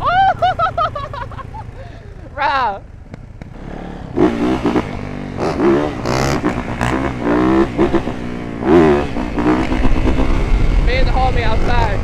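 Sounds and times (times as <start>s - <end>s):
dirt bike engines revving: 0.0s - 12.0s
low rumble: 0.0s - 12.0s.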